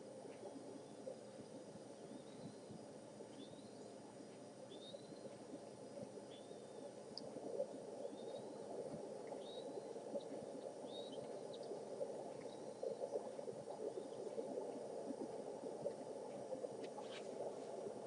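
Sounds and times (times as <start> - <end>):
crackling rustle: 0.0 - 18.0.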